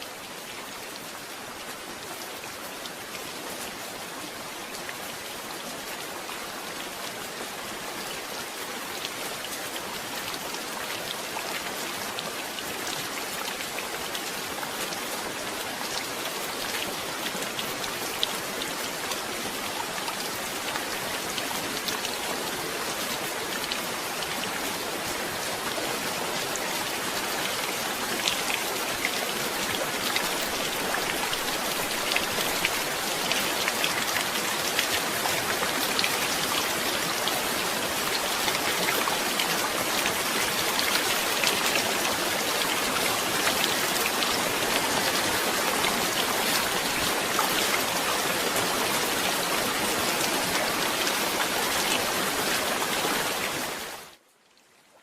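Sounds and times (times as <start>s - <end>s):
heavy rain falling: 0.0s - 54.2s.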